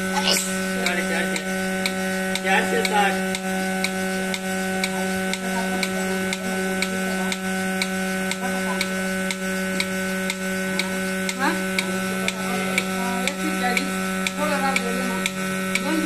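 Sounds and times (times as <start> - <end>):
milking pulsator clicking: 0.0 - 16.0
vacuum pump humming: 0.0 - 16.0.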